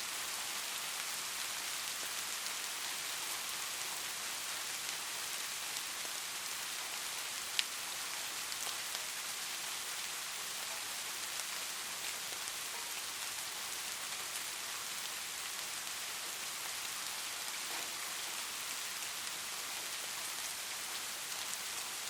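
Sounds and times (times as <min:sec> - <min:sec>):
light rain hissing: 0:00.0 - 0:22.0.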